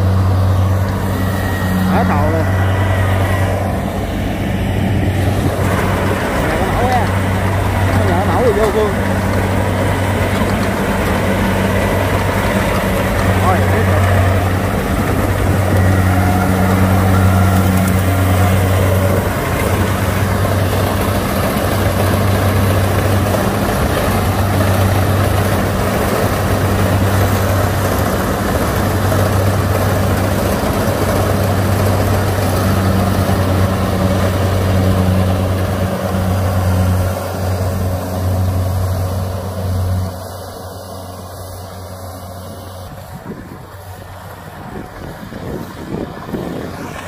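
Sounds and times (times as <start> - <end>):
diesel engine hum: 0.0 - 47.0
harvester machinery noise: 0.0 - 47.0.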